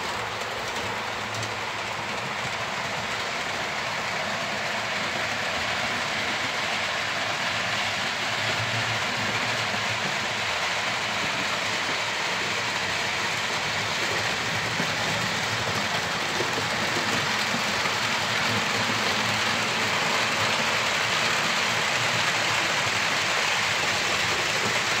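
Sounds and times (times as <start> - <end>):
model trains whirring on rails: 0.0 - 25.0.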